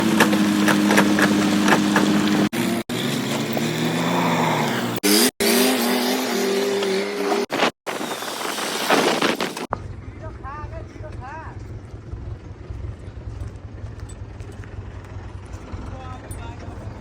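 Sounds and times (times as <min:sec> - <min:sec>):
vehicle engines running: 0:00.0 - 0:08.1, 0:09.4 - 0:17.0.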